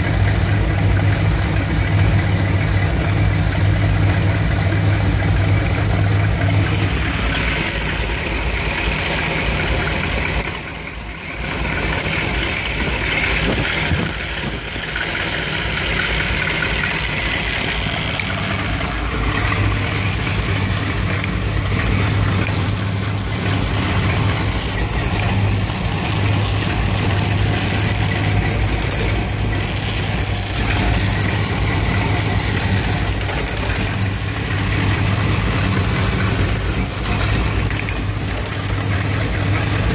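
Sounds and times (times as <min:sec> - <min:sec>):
engine idling roughly: 0:00.0 - 0:39.9.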